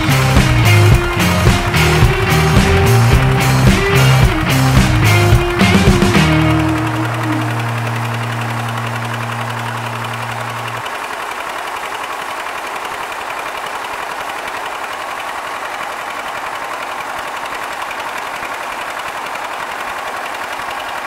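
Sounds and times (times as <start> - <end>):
diesel engine clattering: 0.0 - 21.0.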